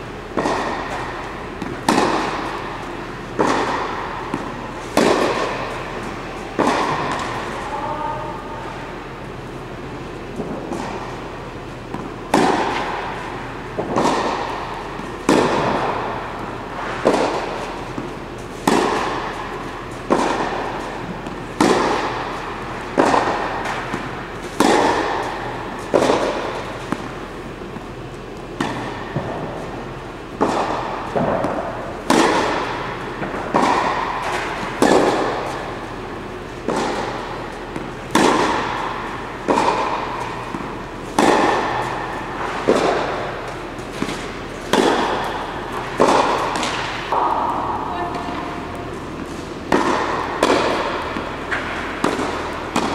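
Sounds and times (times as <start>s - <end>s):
tennis balls hit by rackets: 0.0s - 52.9s.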